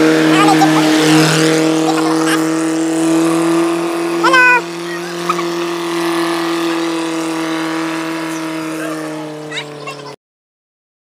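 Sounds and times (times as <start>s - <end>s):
vehicle engine humming: 0.0s - 10.2s.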